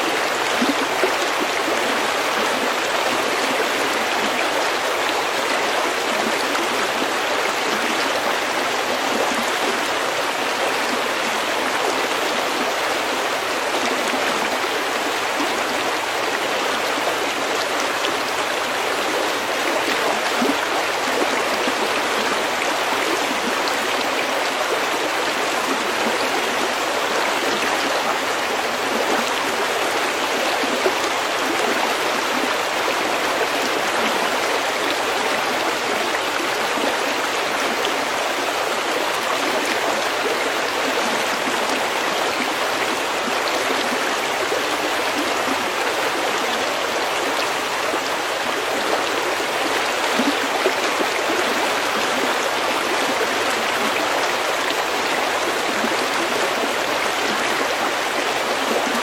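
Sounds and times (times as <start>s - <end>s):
stream babbling over pebbles: 0.0s - 59.0s.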